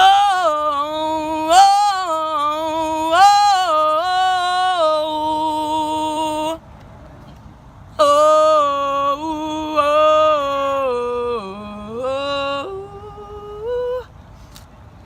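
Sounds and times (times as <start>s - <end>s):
woman singing unaccompanied: 0.0s - 6.6s, 8.0s - 14.1s.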